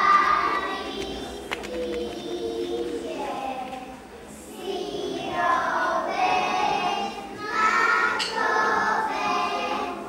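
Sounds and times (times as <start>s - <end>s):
young children singing: 0.0s - 10.0s.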